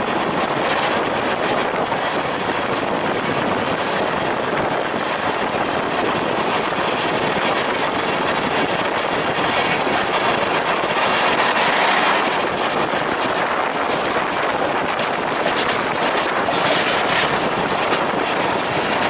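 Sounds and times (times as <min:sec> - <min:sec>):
electric locomotive passing: 0:00.0 - 0:19.0
rail clatter and clicks: 0:00.0 - 0:19.0
train wheels and wind rushing: 0:00.0 - 0:19.0.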